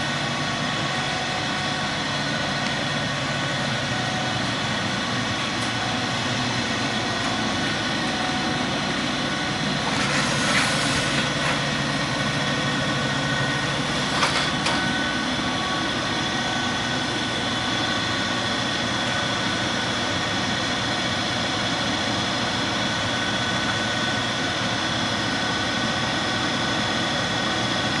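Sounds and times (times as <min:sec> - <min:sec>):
furnace machine drone: 0:00.0 - 0:28.0.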